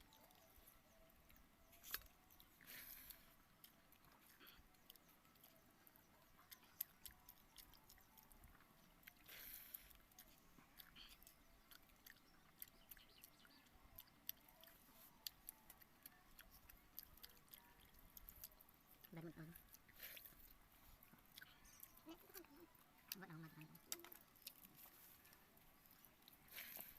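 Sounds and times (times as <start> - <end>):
chewing mouth clicks and smacks: 0.0 - 26.9.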